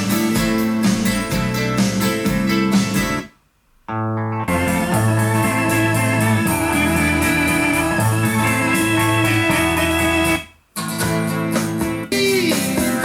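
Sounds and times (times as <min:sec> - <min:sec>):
guitar-led music: 0:00.0 - 0:13.0.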